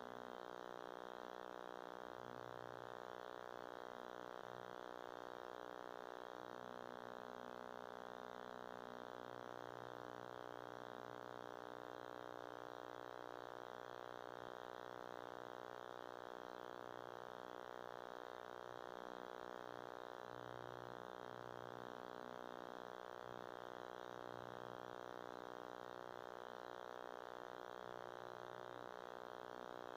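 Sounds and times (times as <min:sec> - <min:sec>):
electronic buzzing hum: 0:00.0 - 0:29.9.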